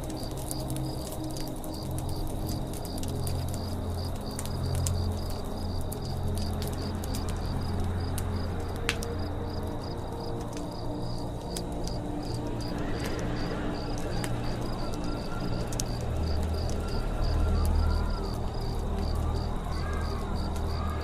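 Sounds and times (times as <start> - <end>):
campfire crackling and popping: 0.0 - 21.0
crickets chirping: 0.0 - 21.0.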